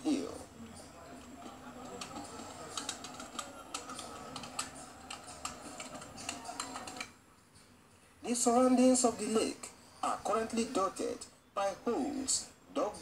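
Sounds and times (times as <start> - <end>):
low background murmur and hiss: 0.0 - 13.0.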